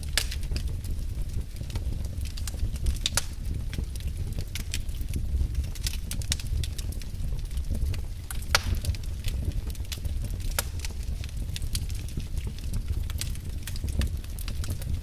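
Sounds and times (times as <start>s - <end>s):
wood fire burning: 0.0s - 15.0s.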